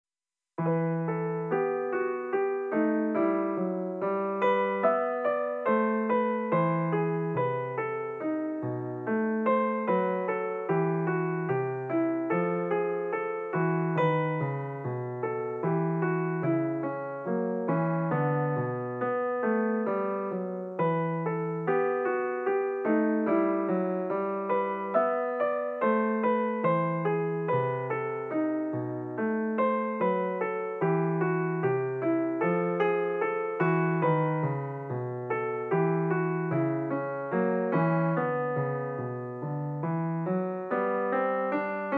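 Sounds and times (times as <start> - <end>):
piano music: 0.6 - 41.9.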